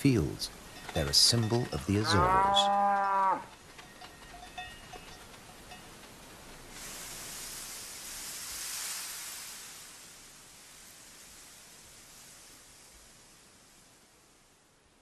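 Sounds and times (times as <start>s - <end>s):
soft rushing outdoor hiss: 0.0s - 15.0s.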